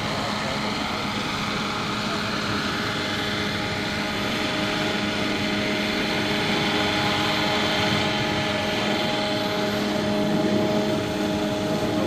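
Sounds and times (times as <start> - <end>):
helicopter rotor noise: 0.0 - 12.0
model helicopter whine: 0.0 - 12.0.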